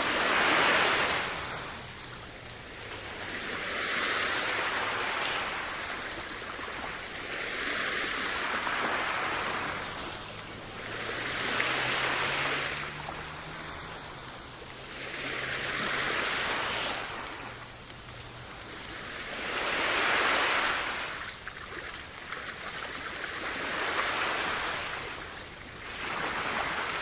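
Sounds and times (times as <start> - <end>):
sea waves washing onto beach: 0.0 - 27.0.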